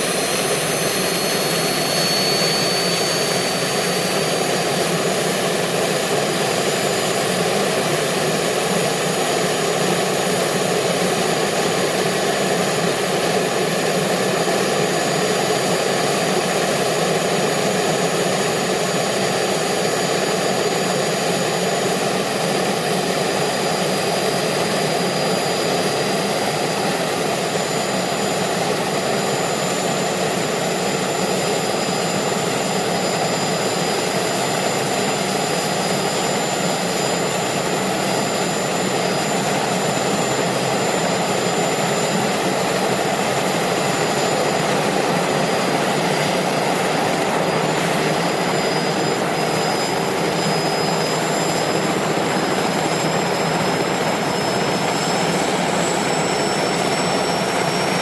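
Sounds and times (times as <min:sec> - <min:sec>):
helicopter turbine engine: 0:00.0 - 0:58.0
high steady turbine whines: 0:00.0 - 0:58.0.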